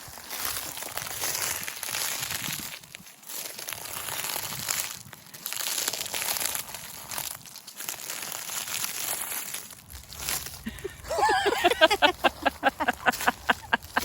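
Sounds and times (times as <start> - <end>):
dry forest litter crunching: 0.0 - 14.0.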